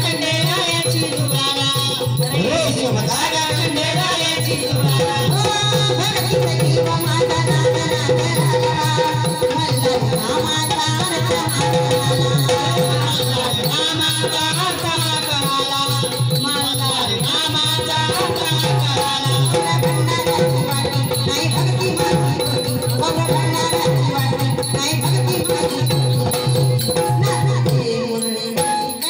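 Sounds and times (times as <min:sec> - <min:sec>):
steady drum beat: 0:00.0 - 0:28.2
rattling shaker percussion: 0:00.0 - 0:29.0.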